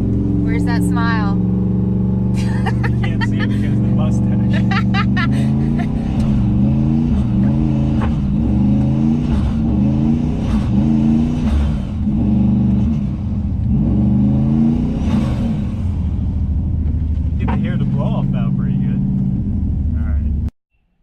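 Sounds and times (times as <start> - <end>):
pickup truck engine revving: 0.0 - 20.5.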